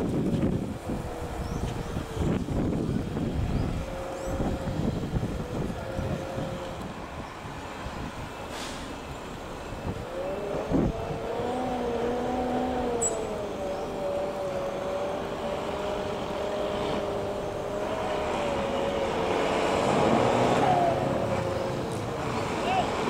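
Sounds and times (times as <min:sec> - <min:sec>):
jet engines whining and rumbling: 0:00.0 - 0:23.0.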